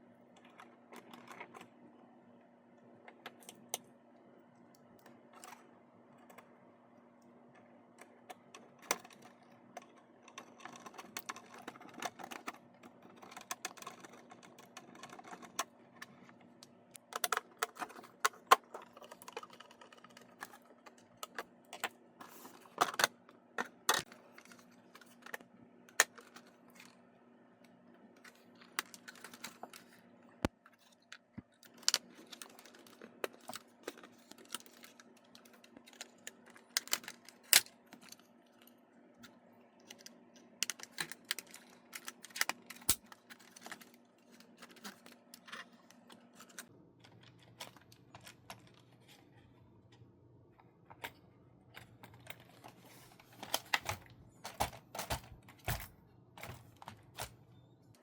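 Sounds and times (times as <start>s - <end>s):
faint steady hum: 0.0s - 58.0s
plastic parts clicking and tapping: 7.2s - 27.0s, 27.6s - 49.3s, 50.9s - 58.0s.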